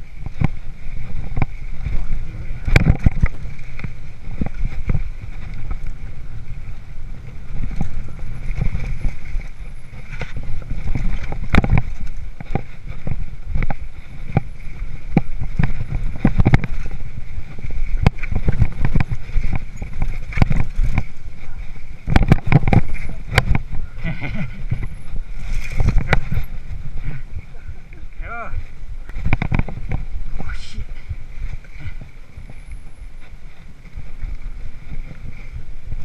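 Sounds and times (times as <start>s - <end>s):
bike clacks and rattles: 0.0s - 36.0s
wind and tyre rumble: 0.0s - 36.0s.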